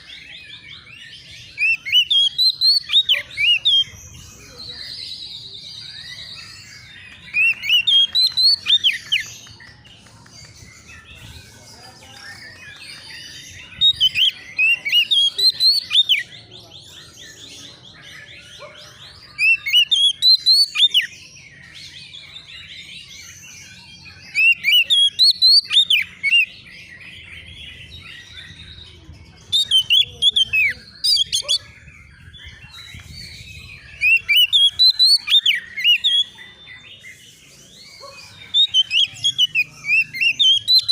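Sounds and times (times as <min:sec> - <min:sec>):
bird singing whistled notes: 0:00.0 - 0:09.8, 0:10.4 - 0:16.3, 0:18.6 - 0:40.9.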